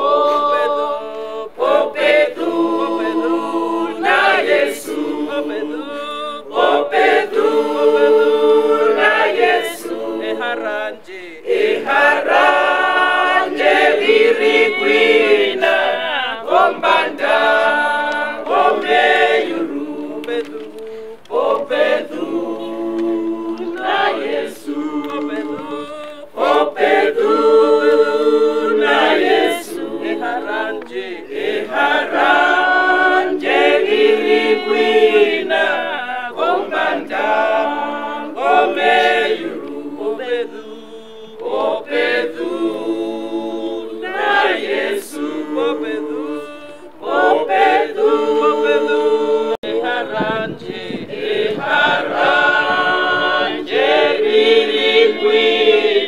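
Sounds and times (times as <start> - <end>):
mixed choir singing unaccompanied: 0.0 - 56.0.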